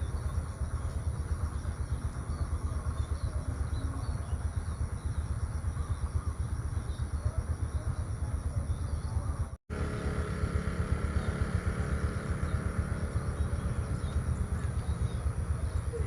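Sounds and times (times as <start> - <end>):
faint bird chirps: 0.0 - 16.0
low fluttering rumble: 0.0 - 16.0.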